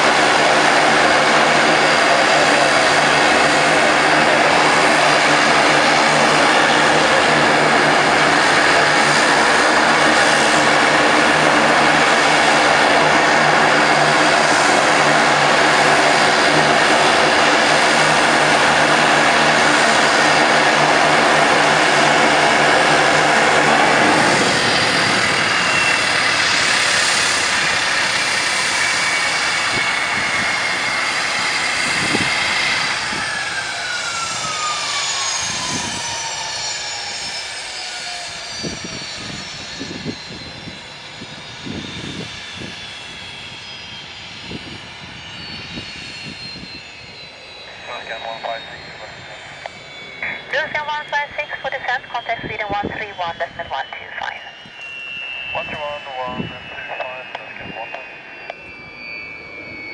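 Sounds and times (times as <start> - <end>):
falling turbine whine: 0.0 - 59.9
turboprop propeller drone: 0.0 - 59.9.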